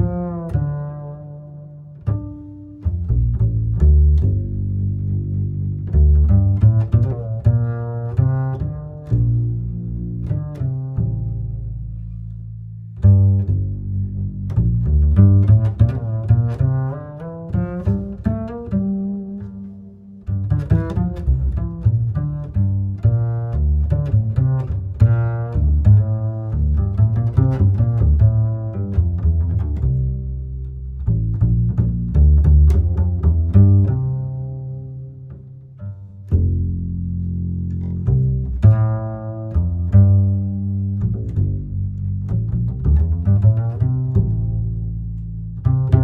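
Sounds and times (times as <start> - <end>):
plucked and bowed low strings: 0.0 - 46.0.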